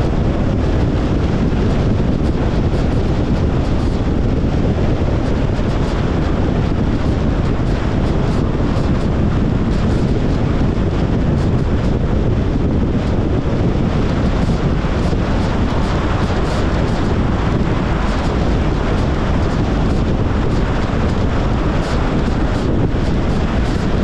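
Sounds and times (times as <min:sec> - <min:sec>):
tyre rumble on road: 0:00.0 - 0:24.0
wind noise: 0:00.0 - 0:24.0.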